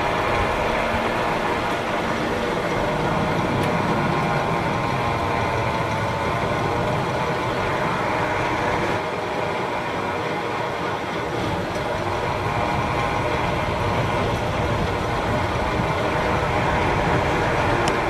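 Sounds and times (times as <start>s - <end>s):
zip-line trolley whirring: 0.0s - 18.0s.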